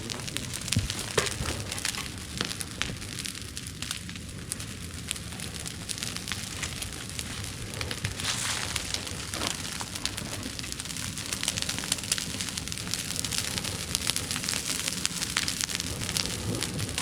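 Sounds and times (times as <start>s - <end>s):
brush fire crackling: 0.0s - 17.0s
fire rushing: 0.0s - 17.0s.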